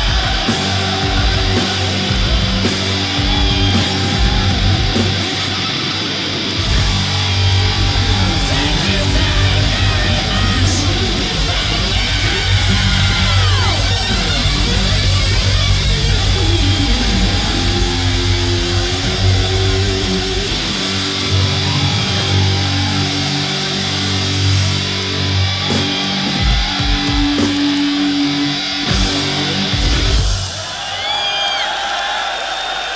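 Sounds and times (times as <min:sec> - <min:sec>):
bass guitar: 0:00.0 - 0:30.6
distorted electric guitar: 0:00.0 - 0:30.6.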